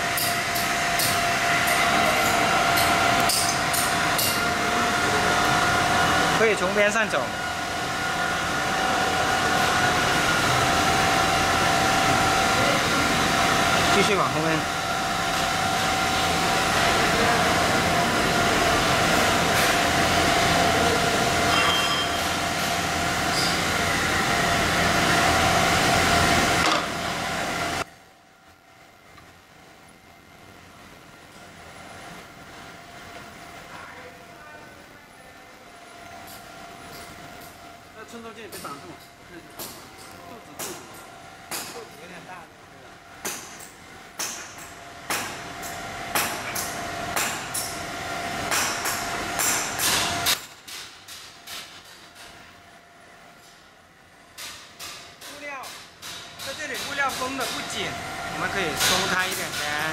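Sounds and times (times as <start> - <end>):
machinery humming and whining: 0.0 - 50.4, 56.3 - 59.9.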